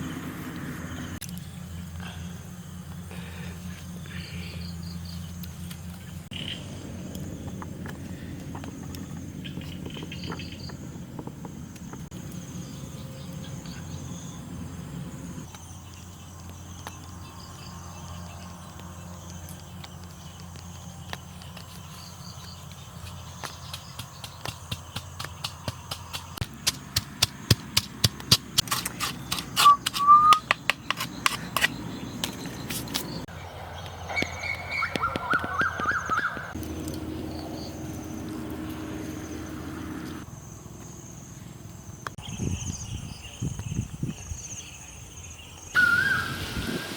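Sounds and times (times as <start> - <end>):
insects chirping: 0.9 - 46.9.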